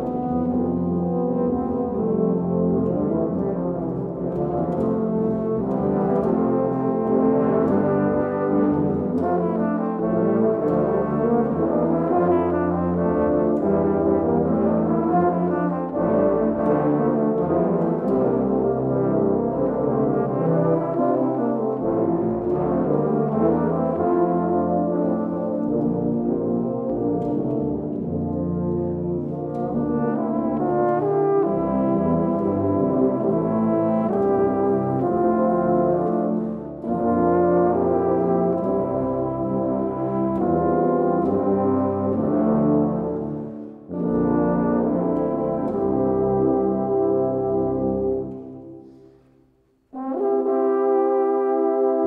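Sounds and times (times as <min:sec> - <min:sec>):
low brass ensemble playing: 0:00.0 - 0:52.0.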